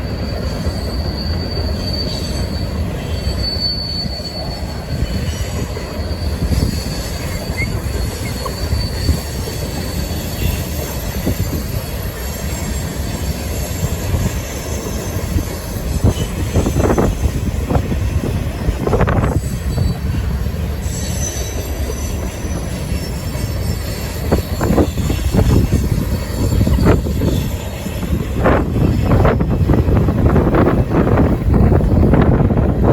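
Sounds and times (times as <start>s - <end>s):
high wheel squeal: 0.0s - 32.5s
train wheels rumbling on rail: 0.0s - 32.9s.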